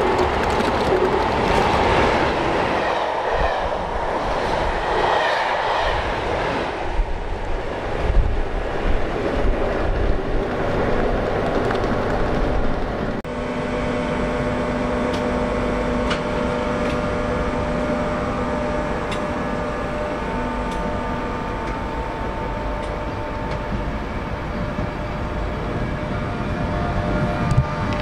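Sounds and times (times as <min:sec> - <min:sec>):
train hum of held tones: 0:00.0 - 0:28.0.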